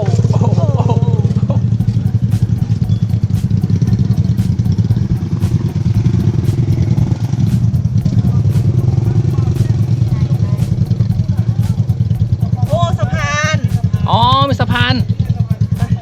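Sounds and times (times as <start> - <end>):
motorcycle taxi engine running: 0.0 - 16.0.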